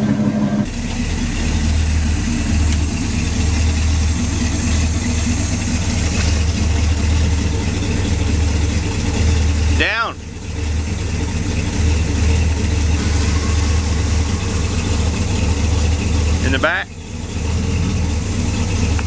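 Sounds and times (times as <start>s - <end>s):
engine idling unevenly: 0.0s - 19.0s.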